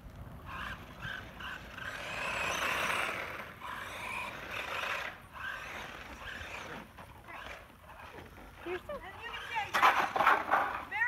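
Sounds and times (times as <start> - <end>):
rc truck motor and tyres: 0.0 - 11.0.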